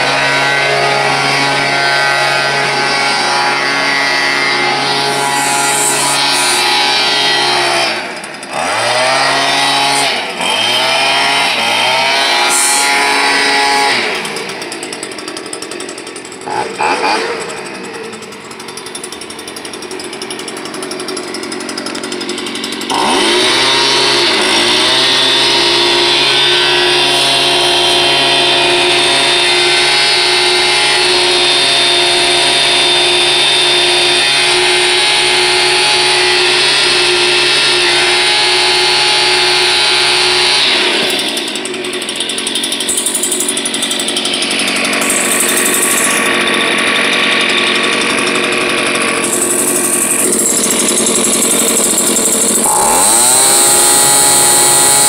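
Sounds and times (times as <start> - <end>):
leaf blower engine revving: 0.0 - 55.0.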